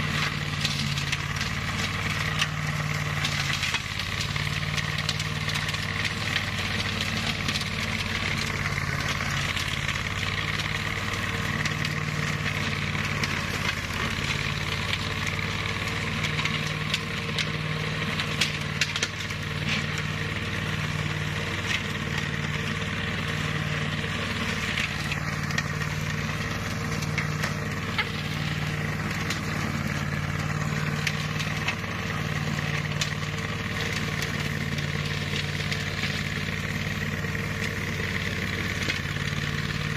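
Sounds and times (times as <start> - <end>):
mower engine running under load: 0.0 - 39.9.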